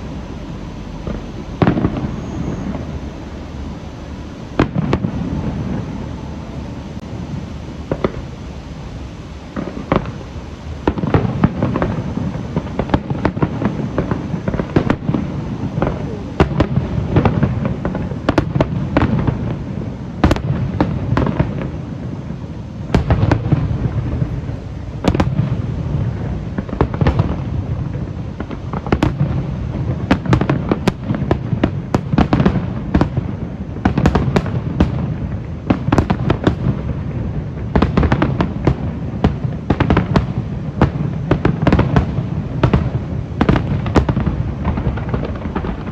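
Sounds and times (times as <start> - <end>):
continuous low rumble: 0.0 - 45.9
fireworks booming: 0.0 - 45.9.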